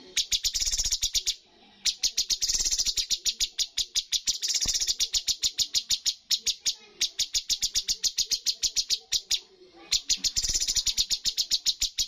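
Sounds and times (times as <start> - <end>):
songbird chattering song: 0.0 - 12.0.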